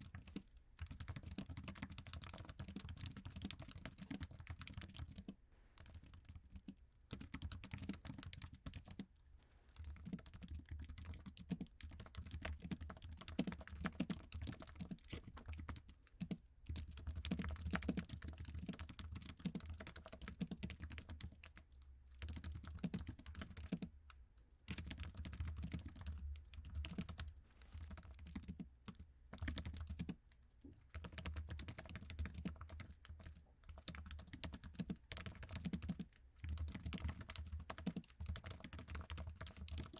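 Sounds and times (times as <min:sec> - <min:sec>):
fast typing on keyboard: 0:00.0 - 0:09.1, 0:09.8 - 0:23.9, 0:24.7 - 0:30.2, 0:30.8 - 0:39.9.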